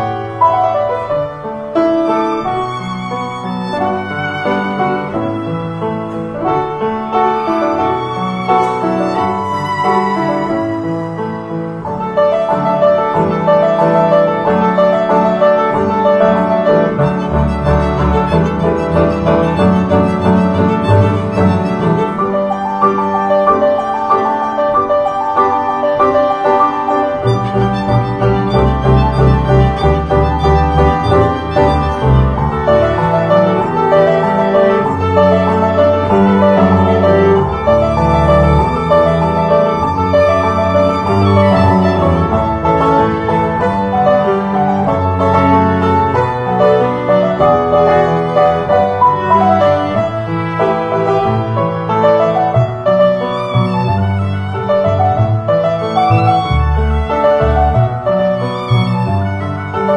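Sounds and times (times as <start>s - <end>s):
piano background music: 0.0s - 59.9s.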